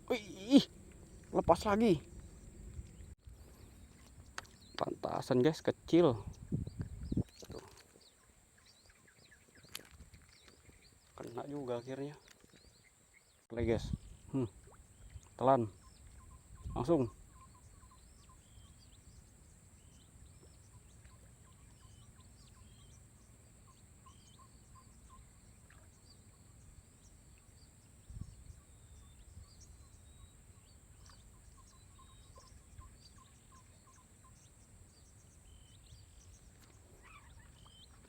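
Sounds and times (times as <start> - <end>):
bird chirps: 0.1 - 38.0.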